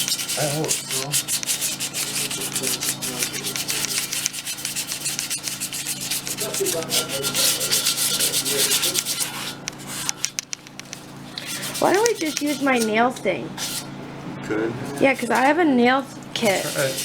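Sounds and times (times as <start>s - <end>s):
sandpaper scraping on metal: 0.0s - 10.3s, 10.9s - 13.0s, 13.6s - 13.9s, 15.0s - 15.6s, 16.4s - 17.0s.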